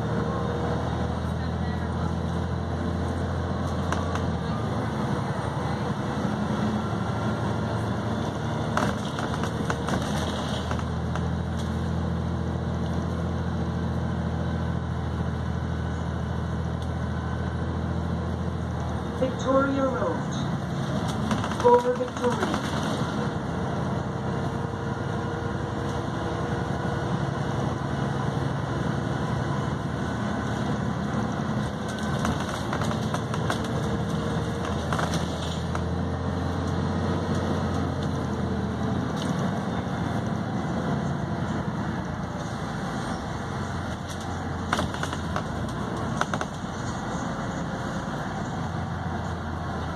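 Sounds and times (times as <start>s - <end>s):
bus diesel engine running: 0.0s - 49.9s
bus rattles and knocks: 0.0s - 49.9s.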